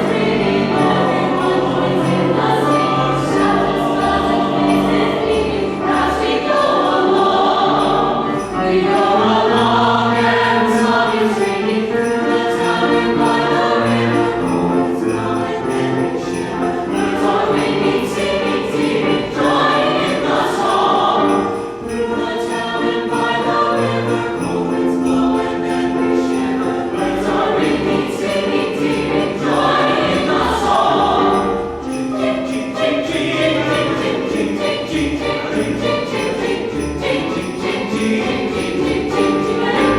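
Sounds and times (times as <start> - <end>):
choir singing: 0.0 - 39.9
jingling sleigh bells: 0.0 - 39.9
percussion: 0.0 - 39.9.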